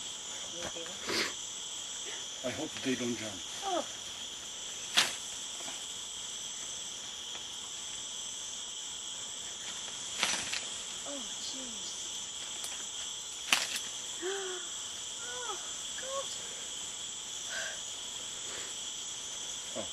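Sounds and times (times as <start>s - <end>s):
insects buzzing: 0.0s - 19.9s.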